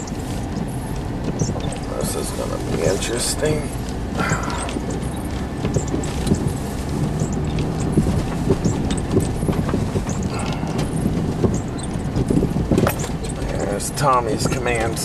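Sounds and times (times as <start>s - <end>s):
engine and tyre rumble: 0.0s - 15.0s
knocks and thumps from snow: 0.0s - 15.0s.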